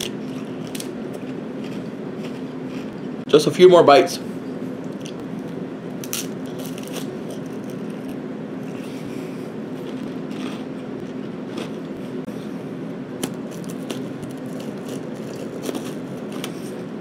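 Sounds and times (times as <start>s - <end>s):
person chewing crunchy food: 0.0s - 3.2s, 4.9s - 12.3s, 13.2s - 16.9s.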